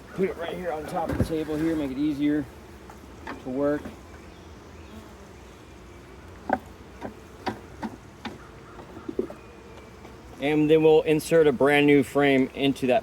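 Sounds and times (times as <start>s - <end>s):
honey bees humming: 0.0s - 13.0s.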